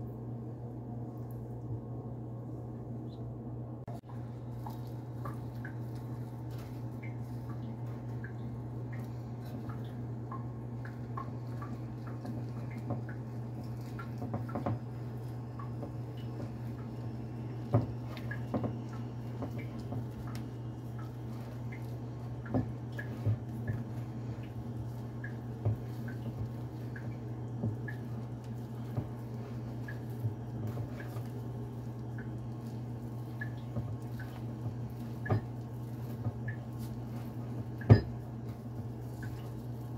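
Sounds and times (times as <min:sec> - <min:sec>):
dough squishing by hand: 0:00.0 - 0:39.9
steady low hum: 0:00.0 - 0:39.9.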